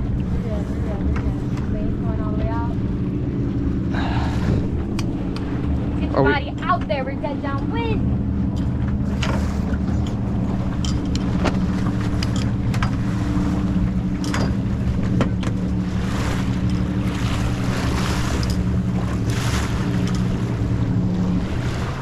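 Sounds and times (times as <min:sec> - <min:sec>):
steady low drone: 0:00.0 - 0:22.0
water washing along hull: 0:00.0 - 0:22.0
wind buffeting microphone: 0:00.0 - 0:22.0.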